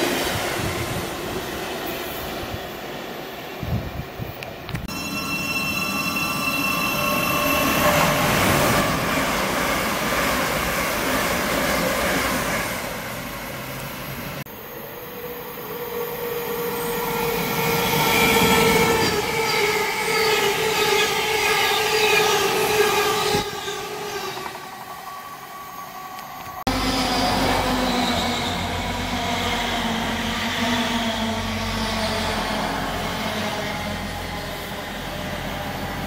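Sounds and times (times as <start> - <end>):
electric train whine: 0.0 - 36.0
train wheels rushing on rails: 0.0 - 36.0.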